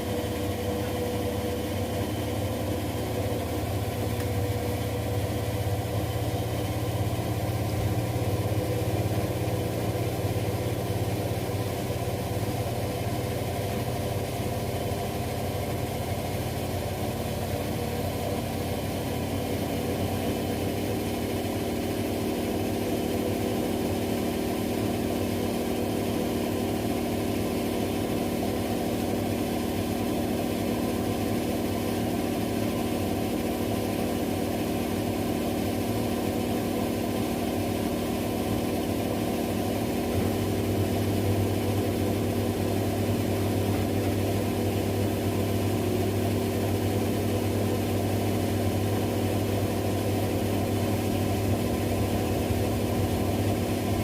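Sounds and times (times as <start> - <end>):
washing machines spinning: 0.0 - 54.0.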